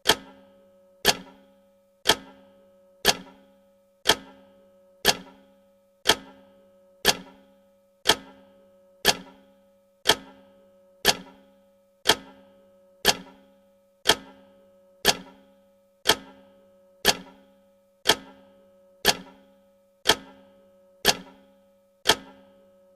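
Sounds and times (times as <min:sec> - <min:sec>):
clock ticks with ringing tail: 0:00.0 - 0:22.8.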